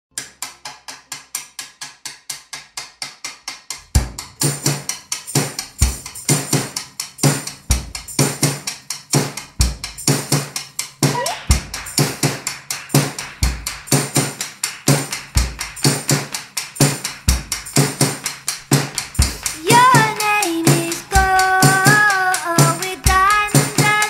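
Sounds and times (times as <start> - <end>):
fast drum tapping: 0.1 - 24.0
bass drum and drum kit: 3.4 - 24.0.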